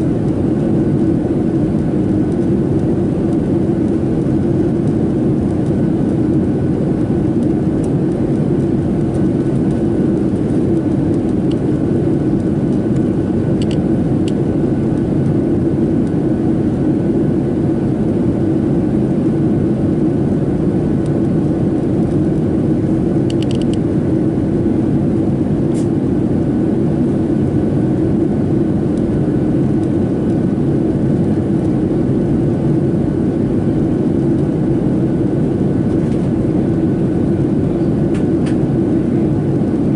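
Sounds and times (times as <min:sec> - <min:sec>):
airplane cabin air and engine noise: 0:00.0 - 0:39.9.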